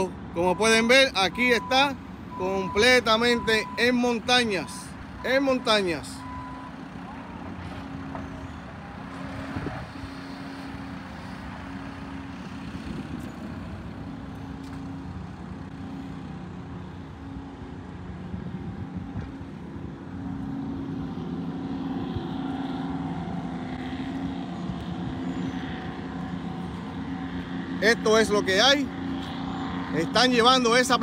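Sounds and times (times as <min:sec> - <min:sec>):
heavy diesel engines droning: 0:00.0 - 0:31.0.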